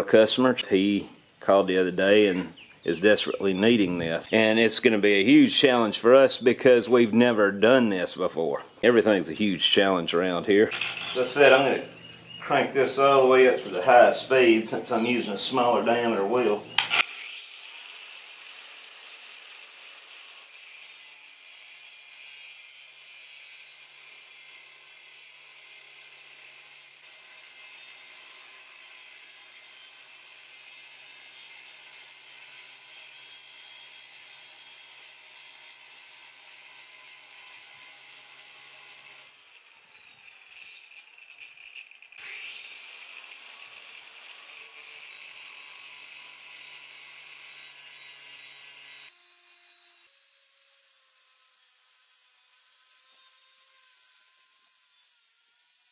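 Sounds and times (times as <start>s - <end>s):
angle grinder cutting metal: 9.0s - 55.9s.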